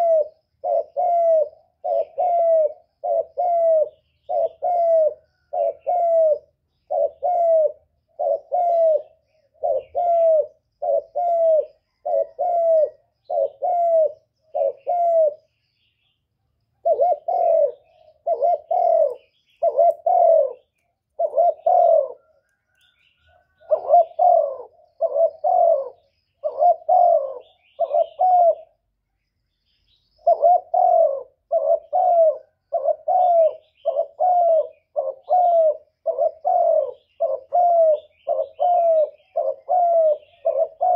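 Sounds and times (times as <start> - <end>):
dove cooing: 0.0 - 15.6, 16.8 - 28.9, 30.2 - 40.9.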